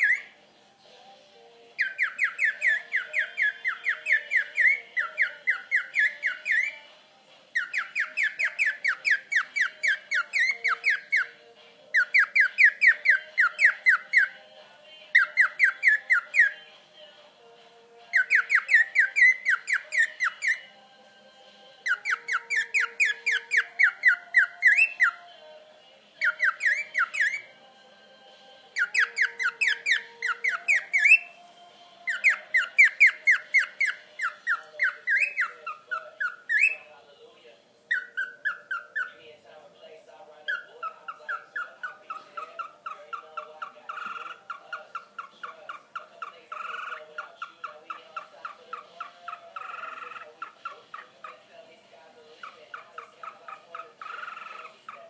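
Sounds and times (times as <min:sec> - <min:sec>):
cockatiel chirping: 0:00.0 - 0:00.4, 0:01.8 - 0:06.9, 0:07.6 - 0:14.4, 0:15.0 - 0:16.7, 0:18.1 - 0:20.8, 0:21.8 - 0:25.4, 0:26.2 - 0:27.6, 0:28.8 - 0:31.4, 0:32.0 - 0:36.9, 0:37.9 - 0:39.2, 0:40.4 - 0:51.5, 0:52.3 - 0:55.0.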